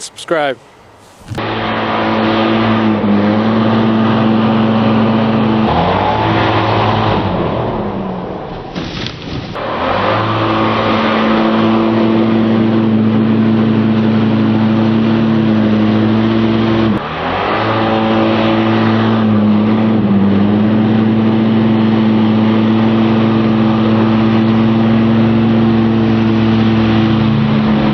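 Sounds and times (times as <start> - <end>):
snowmobile engine running: 1.1 - 27.9.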